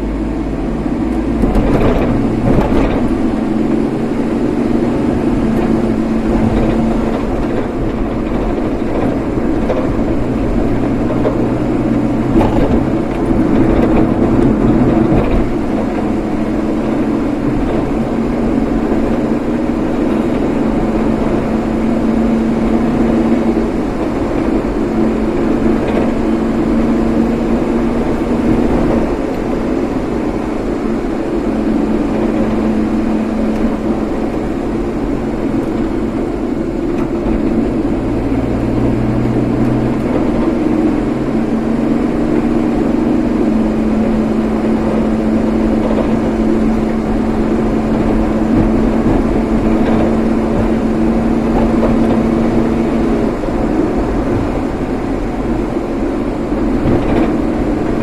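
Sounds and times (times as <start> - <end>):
road and tyre noise: 0.0 - 58.0
vehicle engine drone: 0.0 - 58.0.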